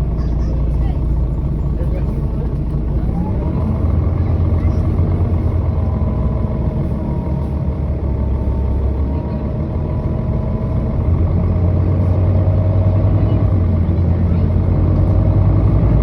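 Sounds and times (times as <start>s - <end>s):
diesel bus engine droning: 0.0s - 16.0s.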